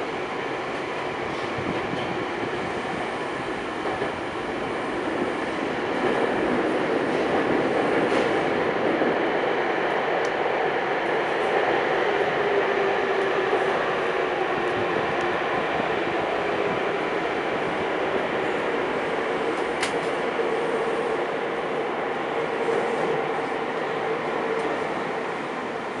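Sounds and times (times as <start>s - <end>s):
train wheels and motors rumbling: 0.0s - 26.0s.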